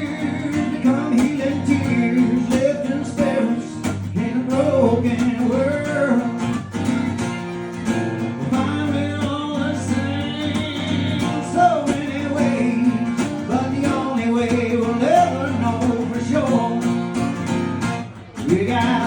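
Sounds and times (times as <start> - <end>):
strummed acoustic guitar chords: 0.0 - 19.0.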